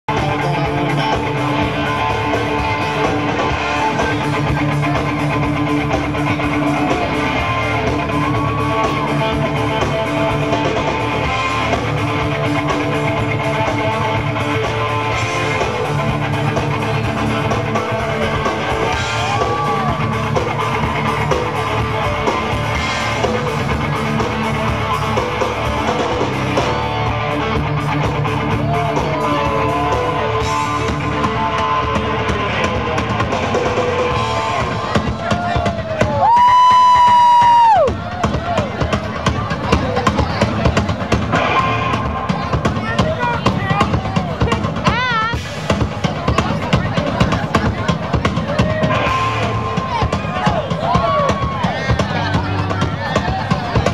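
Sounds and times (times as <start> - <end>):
live blues band playing: 0.1 - 53.9.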